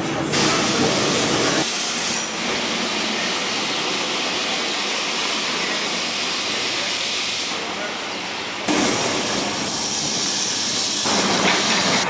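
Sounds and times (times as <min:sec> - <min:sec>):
tram wheels on rails: 0:00.0 - 0:12.0.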